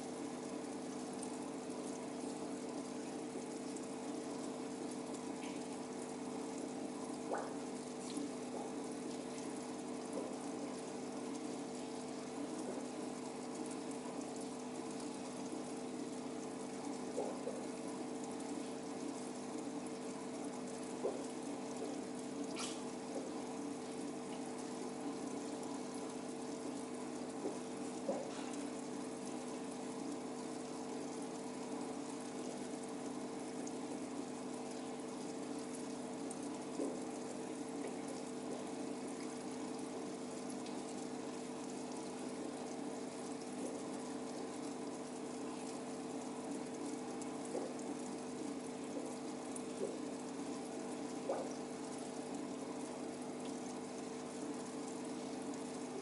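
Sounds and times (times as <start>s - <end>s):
aquarium pump humming: 0.0s - 56.0s
bubbling trickling water: 0.0s - 56.0s.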